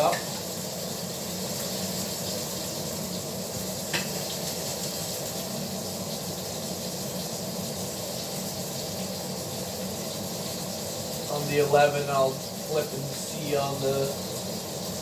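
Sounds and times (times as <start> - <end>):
steak sizzling in frying pan: 0.0 - 15.0.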